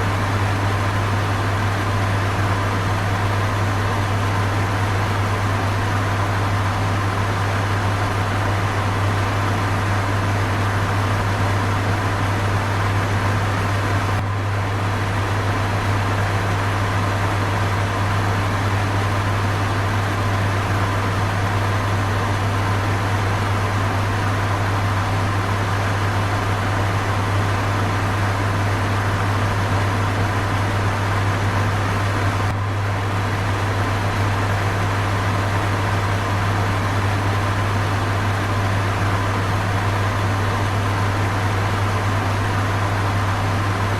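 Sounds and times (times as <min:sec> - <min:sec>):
electric fan running: 0:00.0 - 0:43.9.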